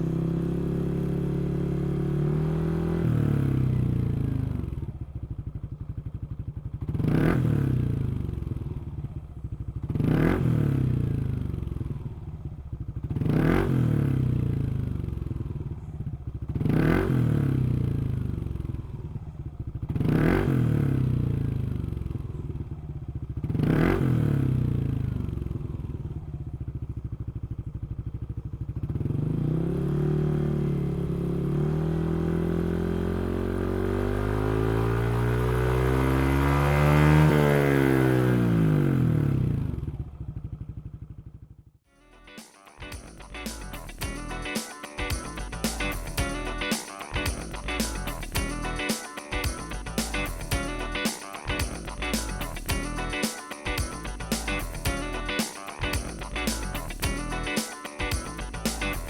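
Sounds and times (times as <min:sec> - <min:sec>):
scooter engine revving and idling: 0:00.0 - 0:41.7, 0:42.9 - 0:59.0.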